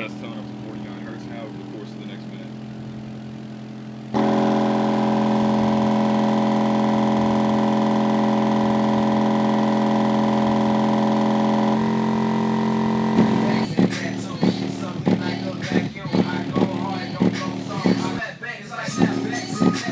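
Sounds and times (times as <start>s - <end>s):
subwoofers buzzing drone: 0.0s - 18.2s.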